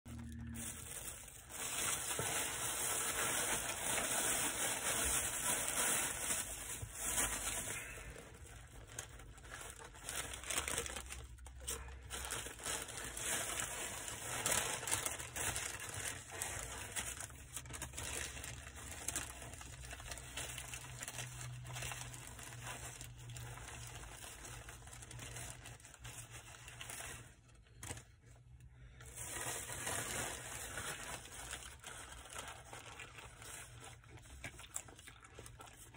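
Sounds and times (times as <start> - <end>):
plastic and paper crinkling: 0.1 - 35.9.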